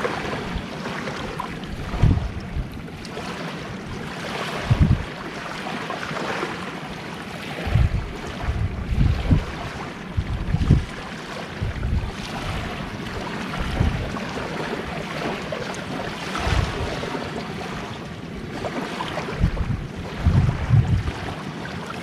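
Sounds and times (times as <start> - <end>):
wind buffeting microphone: 0.0 - 3.0, 3.8 - 5.2, 7.5 - 18.6, 19.2 - 21.5
waves washing on shore: 0.0 - 22.0.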